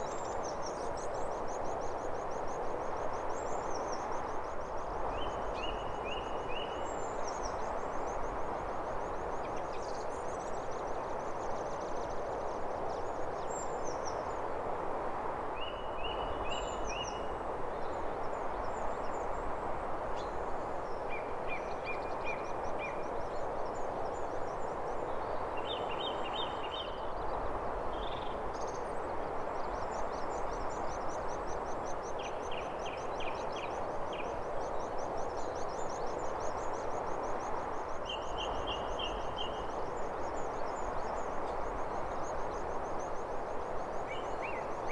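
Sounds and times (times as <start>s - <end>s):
small birds chirping: 0.0s - 14.4s, 20.2s - 44.9s
steady hiss: 0.0s - 44.9s.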